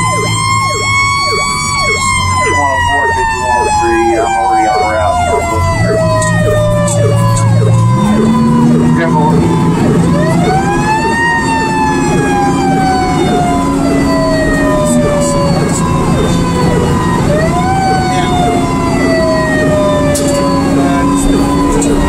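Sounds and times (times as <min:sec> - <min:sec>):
fire engine siren wailing: 0:00.0 - 0:22.0
truck engine droning: 0:00.0 - 0:22.0.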